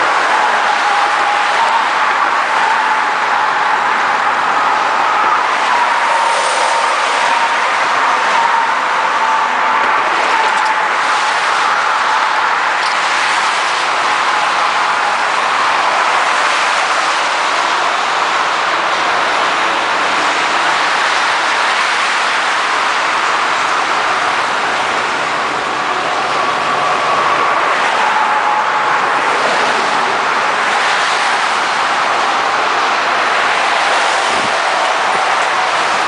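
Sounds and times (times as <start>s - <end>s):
highway traffic rushing: 0.0s - 36.0s.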